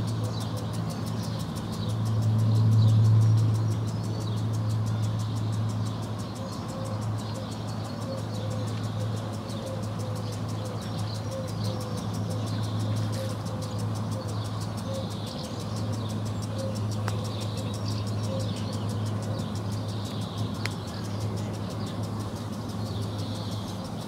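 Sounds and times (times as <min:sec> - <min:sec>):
distant traffic hum: 0:00.0 - 0:24.0
sprinkler ticking: 0:00.0 - 0:24.0
swallows twittering: 0:00.0 - 0:24.0.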